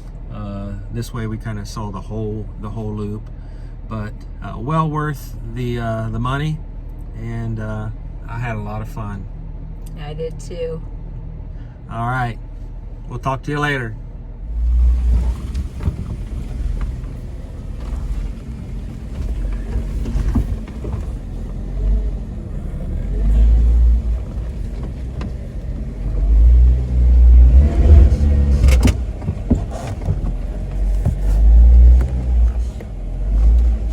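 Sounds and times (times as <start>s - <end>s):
heavy low rumble: 0.0s - 33.9s
off-road vehicle engine drone: 0.0s - 33.9s.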